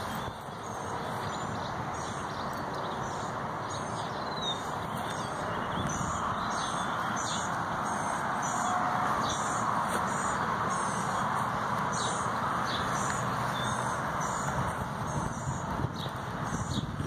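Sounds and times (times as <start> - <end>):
outdoor ambience hiss: 0.0 - 17.0
small birds chirping: 0.0 - 17.0.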